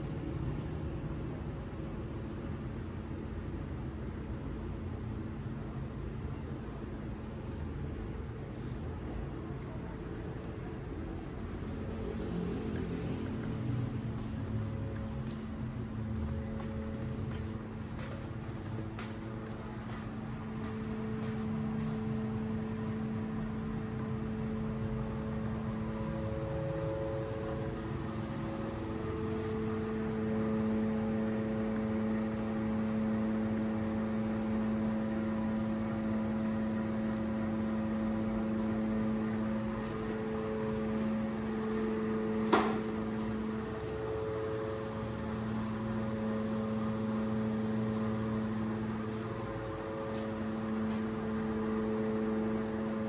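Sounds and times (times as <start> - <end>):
steady multi-tone hum: 0.0 - 53.0.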